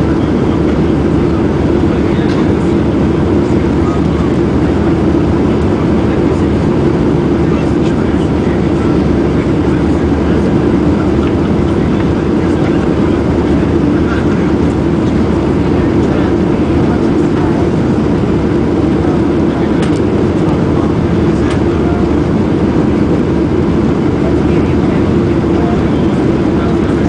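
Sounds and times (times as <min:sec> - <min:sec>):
airplane cabin engine roar: 0:00.0 - 0:27.0.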